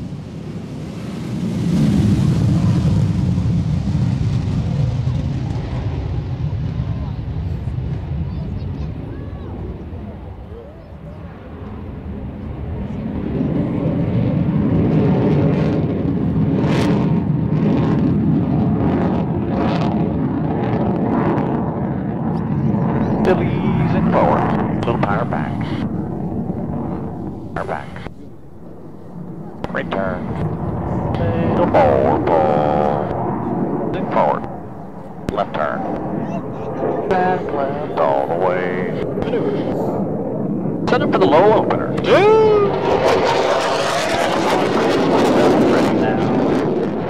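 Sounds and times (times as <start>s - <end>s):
jet engines at full afterburner: 0.0s - 47.0s.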